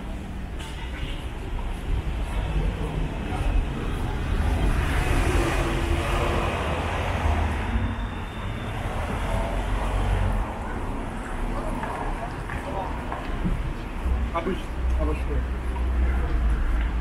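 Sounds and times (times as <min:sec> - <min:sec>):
steady low traffic rumble: 0:00.0 - 0:17.0.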